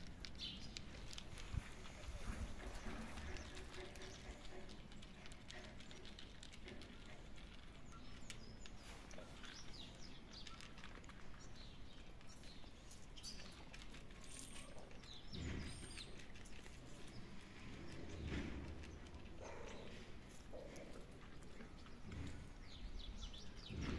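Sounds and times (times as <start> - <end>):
kittens crunching dry food: 0.0 - 23.9.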